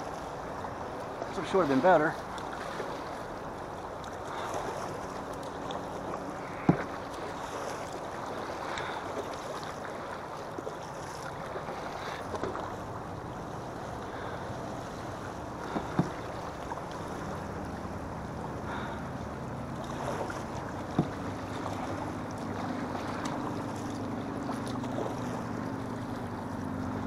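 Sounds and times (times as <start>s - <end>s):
water splashing against kayak hull: 0.0s - 27.0s.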